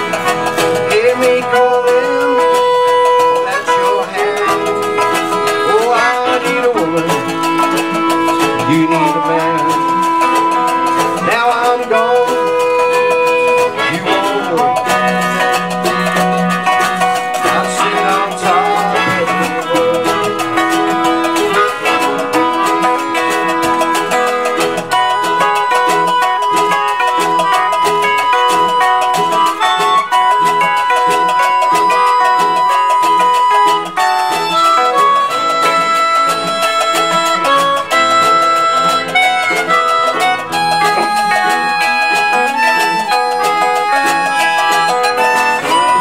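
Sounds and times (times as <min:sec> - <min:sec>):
harmonica playing bending notes: 0:00.0 - 0:46.0
plucked strings: 0:00.0 - 0:46.0
strummed guitar: 0:00.0 - 0:46.0.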